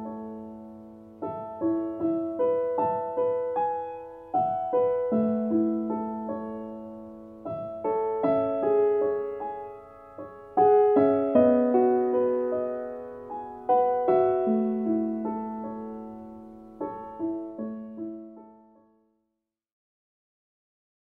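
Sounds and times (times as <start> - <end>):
gentle piano melody: 0.0 - 19.2.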